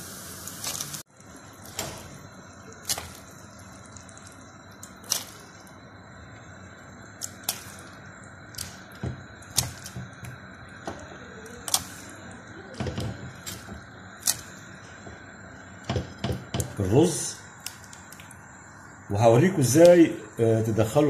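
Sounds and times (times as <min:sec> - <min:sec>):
water boiling in a pot: 0:00.0 - 0:21.0.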